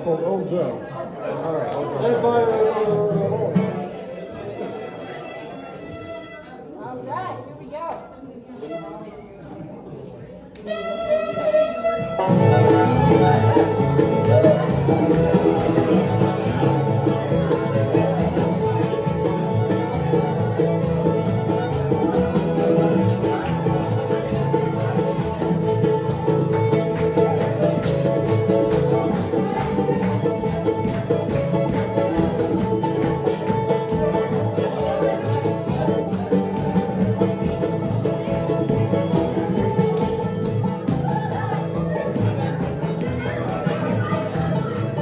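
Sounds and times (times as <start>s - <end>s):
banjo and guitar picking: 1.3s - 6.4s, 10.7s - 45.0s
bluegrass band playing: 1.8s - 6.8s, 10.6s - 45.0s.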